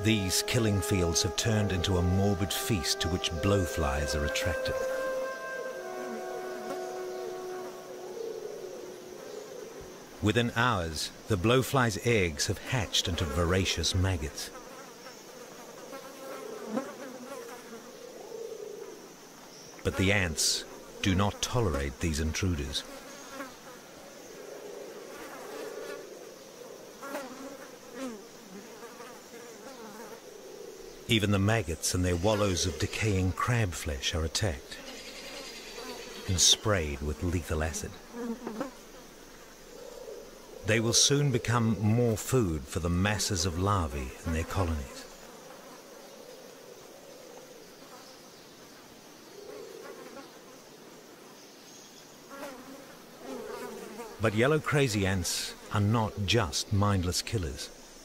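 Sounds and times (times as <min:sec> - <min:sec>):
flies buzzing: 0:00.0 - 0:58.0.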